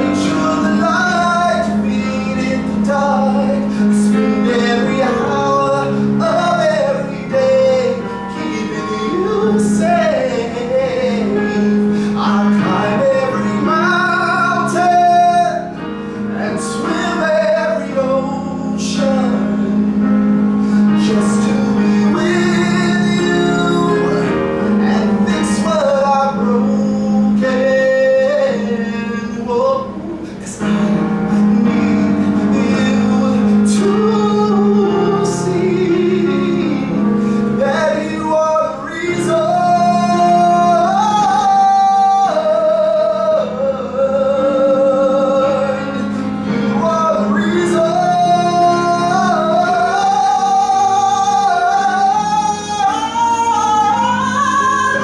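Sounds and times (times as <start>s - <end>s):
man singing long held notes: 0.0s - 55.0s.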